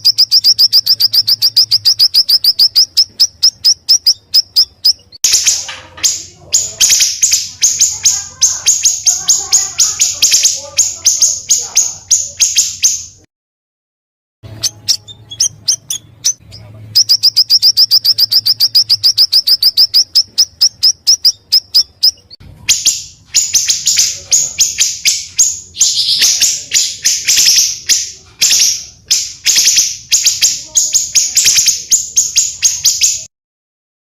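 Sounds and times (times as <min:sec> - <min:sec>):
harsh chattering bird trill: 0:00.0 - 0:13.3, 0:14.5 - 0:33.3
songbirds singing: 0:00.0 - 0:13.3, 0:14.4 - 0:33.3.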